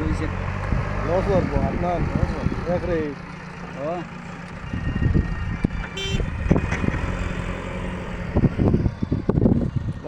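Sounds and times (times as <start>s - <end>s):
diesel machinery engine running: 0.0s - 10.0s.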